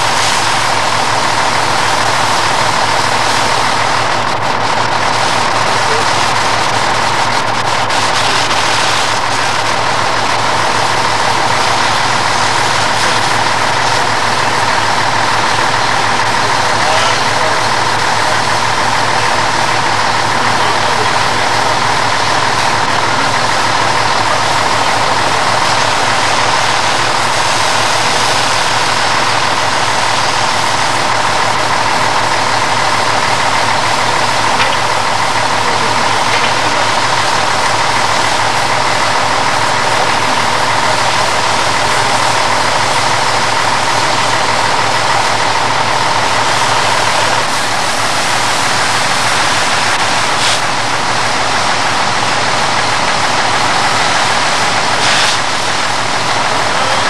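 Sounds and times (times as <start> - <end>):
fire engine pump motors droning: 0.0 - 57.0.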